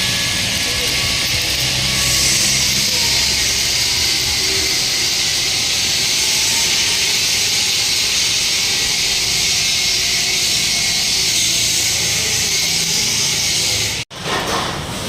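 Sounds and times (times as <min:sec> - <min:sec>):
loud steady hiss: 0:00.0 - 0:14.0.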